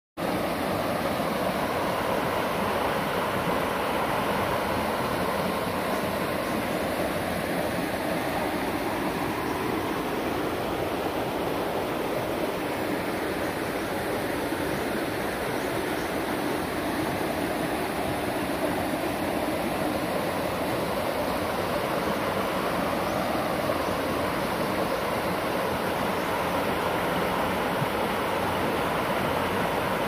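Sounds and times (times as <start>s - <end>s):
creek flowing over rocks: 0.2s - 30.0s.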